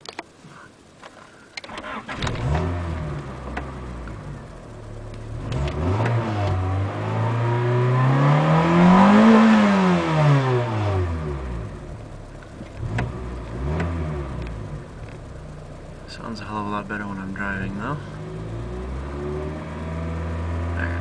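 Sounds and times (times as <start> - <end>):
car engine idling and revving: 1.6 - 21.0.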